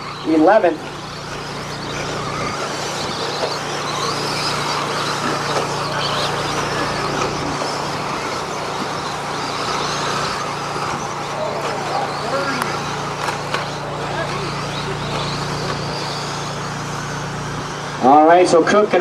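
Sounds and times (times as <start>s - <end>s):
small-motor whine: 0.0s - 19.0s
steady low hum: 0.0s - 19.0s.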